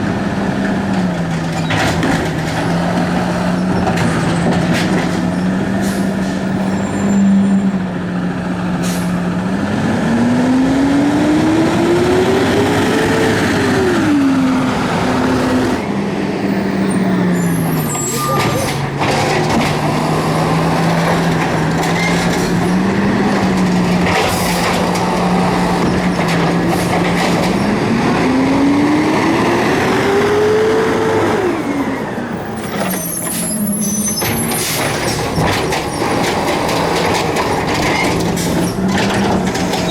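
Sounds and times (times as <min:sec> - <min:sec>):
garbage truck engine revving: 0:00.0 - 0:39.9.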